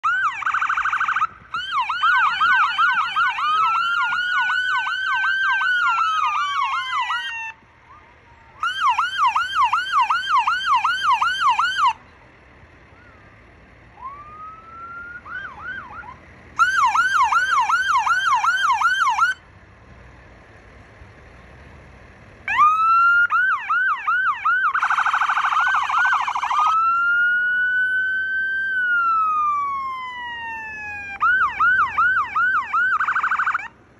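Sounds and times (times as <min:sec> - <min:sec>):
police siren yelp and wail: 0:00.0 - 0:12.0, 0:13.9 - 0:19.4, 0:22.4 - 0:33.8.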